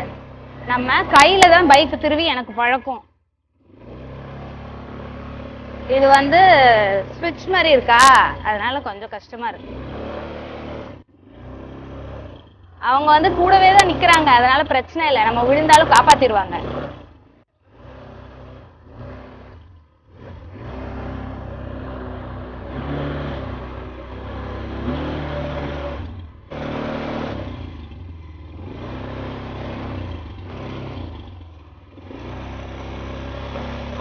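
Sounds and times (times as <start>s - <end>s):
atv engine revving: 0.0s - 3.0s, 3.6s - 34.0s.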